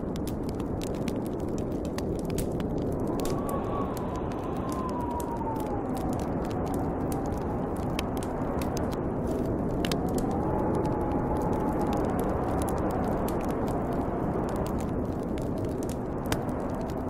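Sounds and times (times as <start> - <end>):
snowstorm wind whistling: 0.0 - 17.0
wood fire crackling: 0.0 - 17.0.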